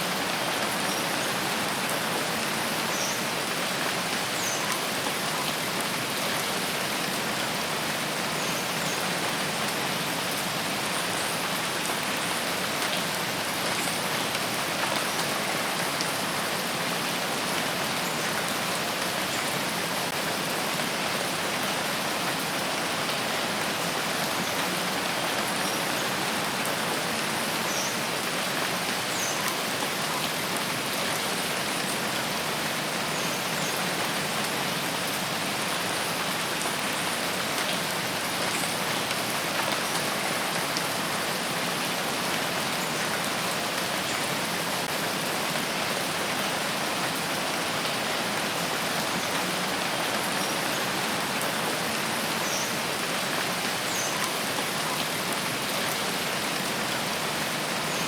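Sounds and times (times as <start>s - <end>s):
steady rainfall on leaves: 0.0s - 58.0s.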